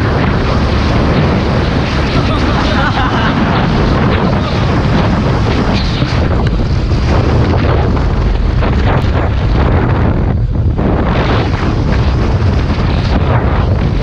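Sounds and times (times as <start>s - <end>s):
speed boat running: 0.0s - 14.0s
wind buffeting microphone: 0.0s - 14.0s.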